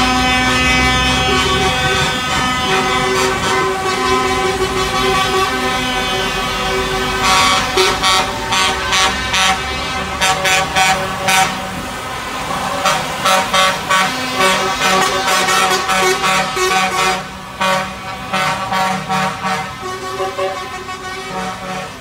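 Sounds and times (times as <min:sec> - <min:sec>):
lorry air horns blaring: 0:00.0 - 0:22.0
lorry engines rumbling: 0:00.0 - 0:22.0.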